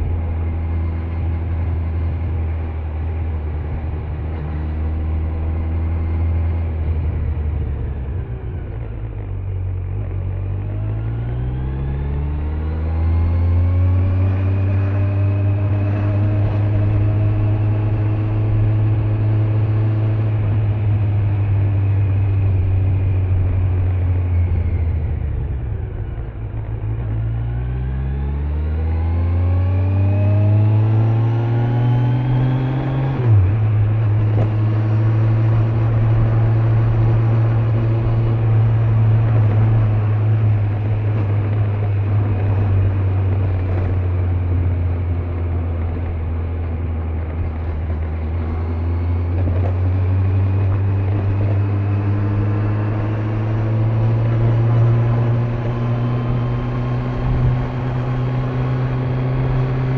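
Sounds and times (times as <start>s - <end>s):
motorcycle engine under way: 0.0s - 59.9s
wind and road noise: 0.0s - 59.9s.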